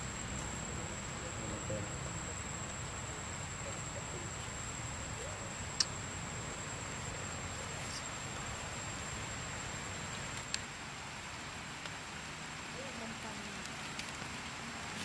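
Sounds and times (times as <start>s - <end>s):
insects droning: 0.0s - 15.0s
low hiss: 0.0s - 15.0s.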